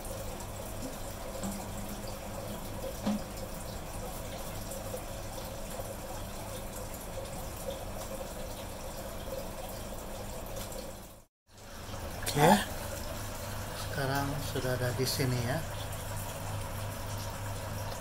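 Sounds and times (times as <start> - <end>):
water running into a container: 0.0 - 18.0.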